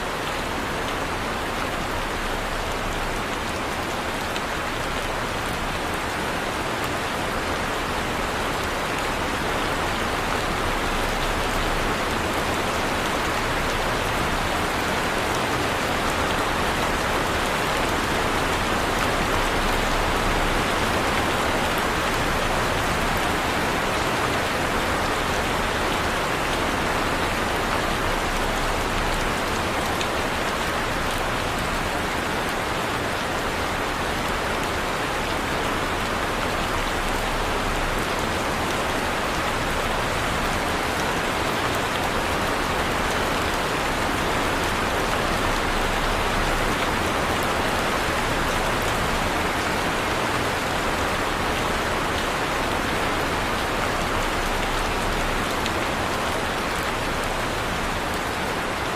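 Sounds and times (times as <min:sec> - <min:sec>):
raindrops pattering on a surface: 0:00.1 - 0:58.9.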